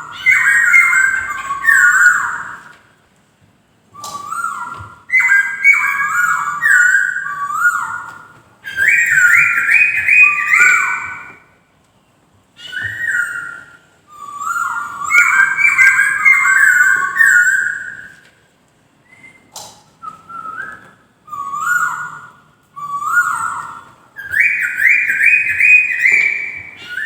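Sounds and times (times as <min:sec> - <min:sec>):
bird singing whistled phrases: 0:00.0 - 0:02.7, 0:04.0 - 0:11.4, 0:12.6 - 0:18.2, 0:19.1 - 0:27.0.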